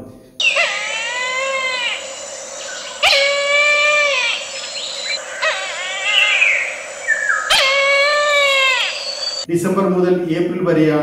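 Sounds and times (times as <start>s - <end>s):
kite calling: 0.4s - 9.5s.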